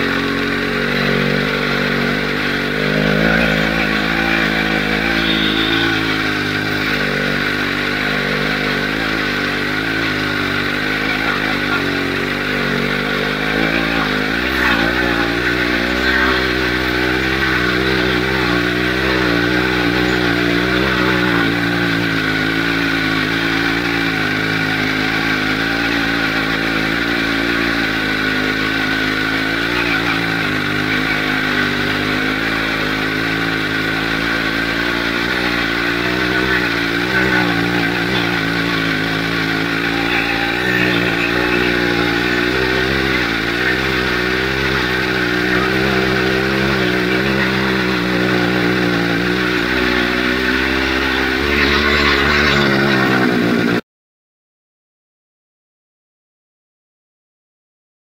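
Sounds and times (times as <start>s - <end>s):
two-stroke engine running: 0.0s - 53.8s.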